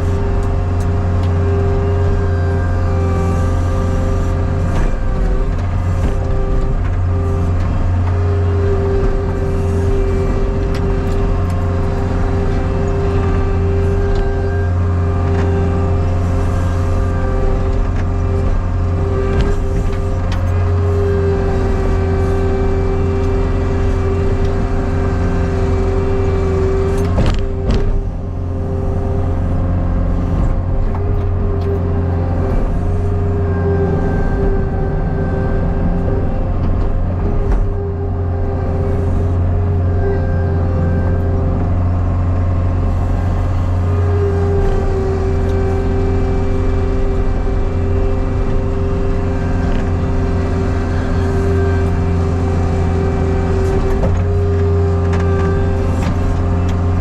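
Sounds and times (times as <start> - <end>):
hydraulic whine: 0.0 - 57.0
skid steer engine running: 0.0 - 57.0.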